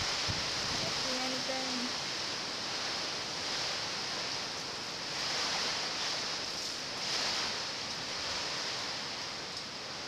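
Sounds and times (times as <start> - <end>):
wind driving heavy rain: 0.0 - 10.0.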